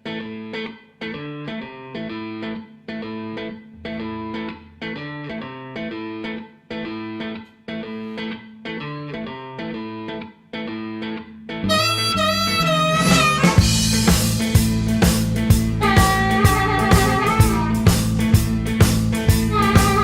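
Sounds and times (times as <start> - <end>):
electric guitar riff: 0.0 - 20.0.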